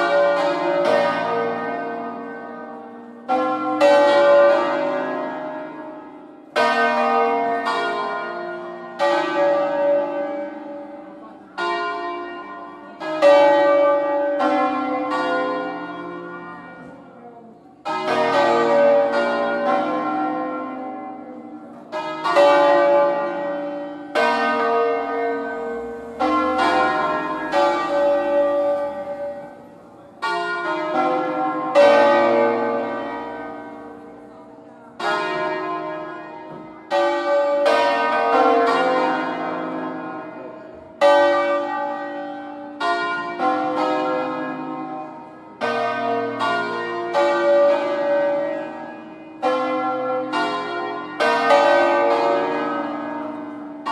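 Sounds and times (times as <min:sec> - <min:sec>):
church bells pealing: 0:00.0 - 0:53.9.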